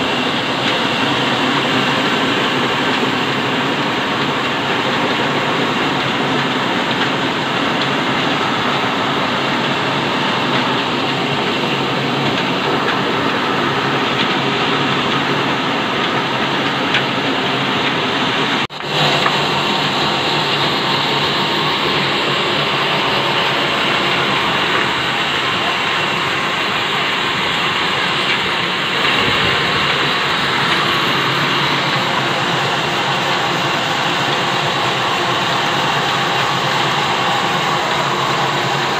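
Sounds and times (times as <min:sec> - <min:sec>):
band sawmill running: 0:00.0 - 0:38.9
old stationary engine running: 0:00.0 - 0:38.9.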